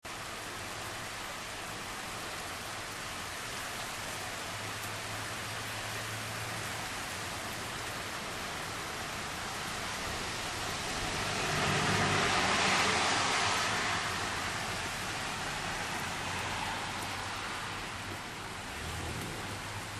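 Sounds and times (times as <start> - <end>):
heavy rain hissing: 0.1 - 19.9.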